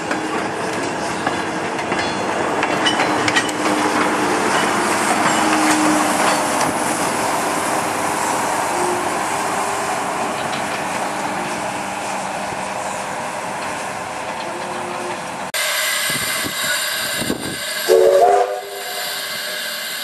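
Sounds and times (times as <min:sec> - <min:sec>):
rail clicks: 0:00.0 - 0:20.0
train wheels rolling on rails: 0:00.0 - 0:20.0.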